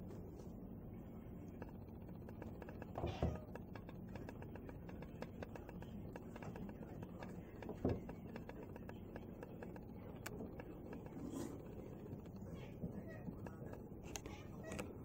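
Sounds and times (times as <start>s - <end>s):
crows tapping on skylight: 1.5s - 14.9s.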